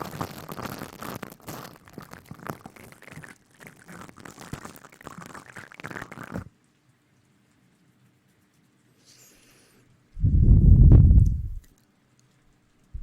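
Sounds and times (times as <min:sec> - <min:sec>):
close-up rustling and crinkling: 0:00.0 - 0:13.0.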